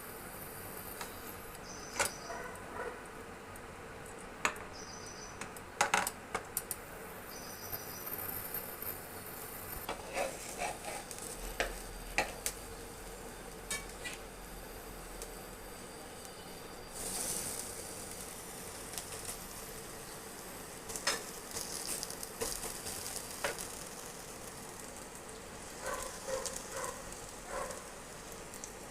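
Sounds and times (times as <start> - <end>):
food sizzling on a hot pan: 0.0 - 2.3, 4.5 - 28.9.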